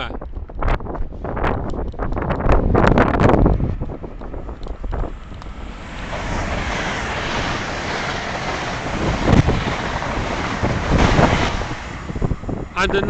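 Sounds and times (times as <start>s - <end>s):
high-speed train passing: 0.9s - 13.0s.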